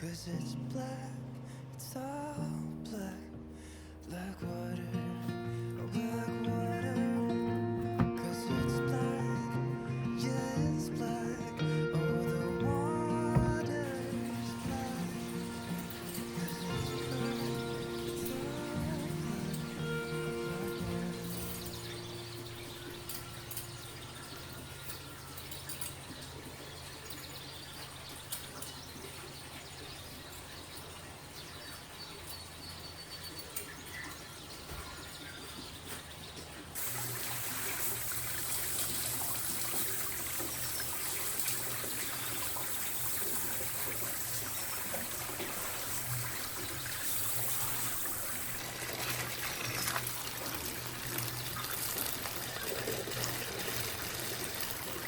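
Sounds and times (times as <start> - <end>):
water running: 5.8 - 55.0.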